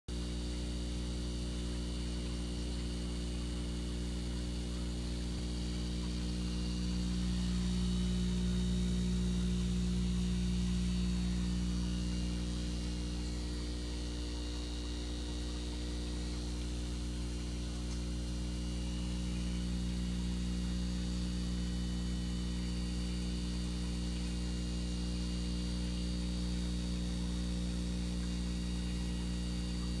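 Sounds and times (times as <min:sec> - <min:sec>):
low electrical hum: 0:00.1 - 0:30.0.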